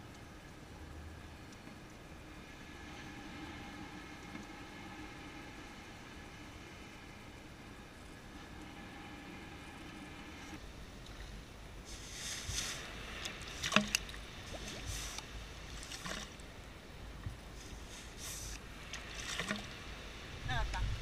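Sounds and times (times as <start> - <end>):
shallow water splashing: 1.2 - 20.6.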